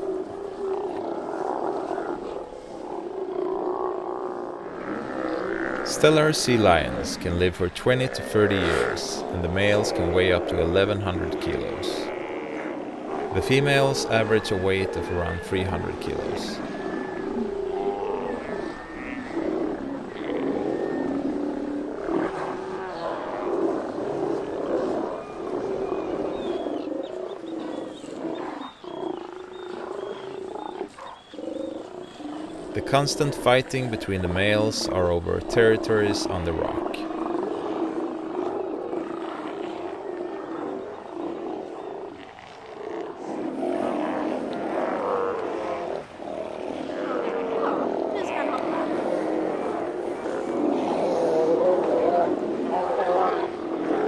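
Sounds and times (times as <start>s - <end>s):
sea lions growling calls: 0.0s - 54.0s.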